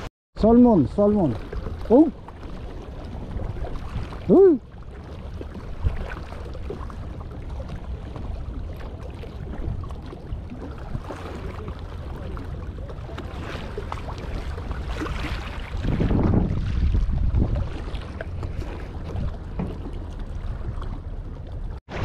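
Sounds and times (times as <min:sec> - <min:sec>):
small waves lapping on rock: 0:00.9 - 0:21.1
wind rumbling on microphone: 0:01.3 - 0:22.0.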